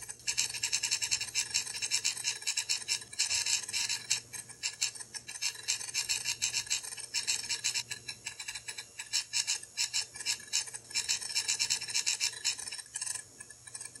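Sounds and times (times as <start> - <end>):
hard disk heads clicking: 0.0 - 14.0
low steady hum: 0.0 - 14.0.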